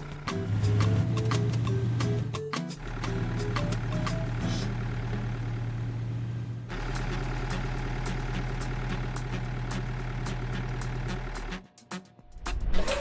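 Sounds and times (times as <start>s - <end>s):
cartoon vehicle engine hum: 0.0s - 11.6s.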